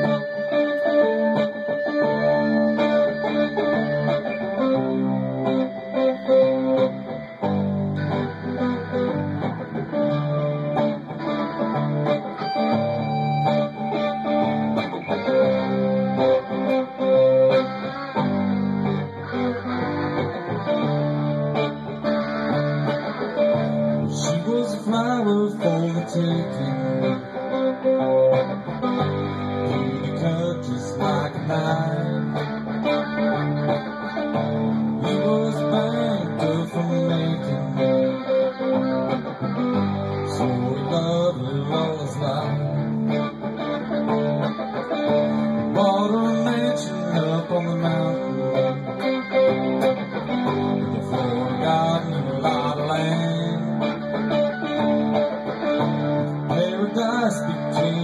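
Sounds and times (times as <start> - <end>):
country music on guitars: 0.0 - 58.0.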